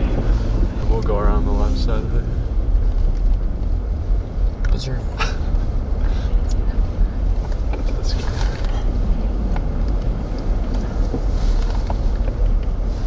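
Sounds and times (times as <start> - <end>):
slow vehicles road noise: 0.0 - 13.0
wind buffeting microphone: 0.0 - 13.0.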